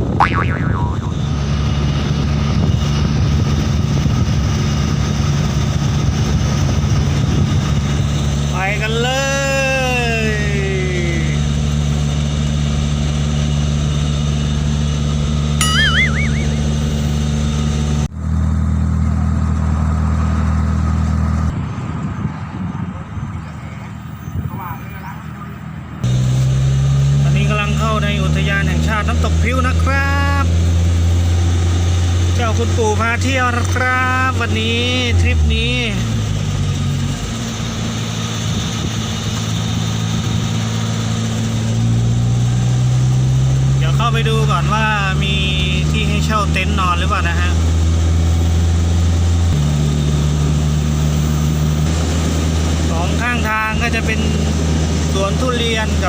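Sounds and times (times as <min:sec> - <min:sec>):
car engine hum and road noise: 0:01.1 - 0:15.6, 0:16.6 - 0:56.0.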